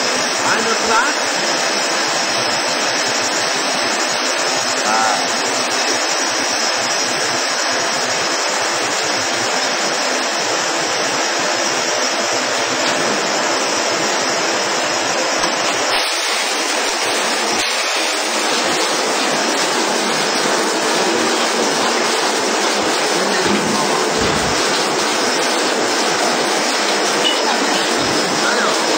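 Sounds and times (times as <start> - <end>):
water jets hissing: 0.0 - 28.9.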